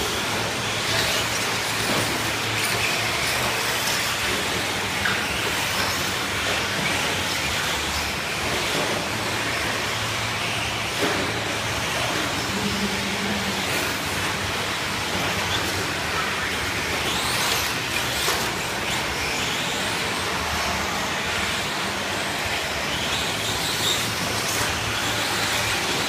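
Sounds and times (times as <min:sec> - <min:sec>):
steady noisy wash: 0:00.0 - 0:26.0.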